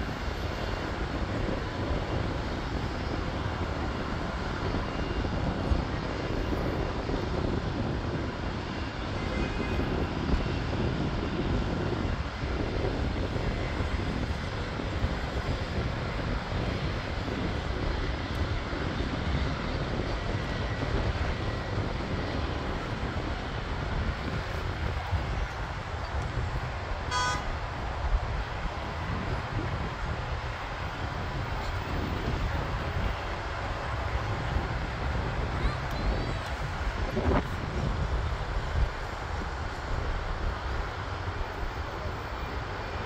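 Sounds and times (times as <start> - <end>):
distant jet engines: 0.0 - 43.0.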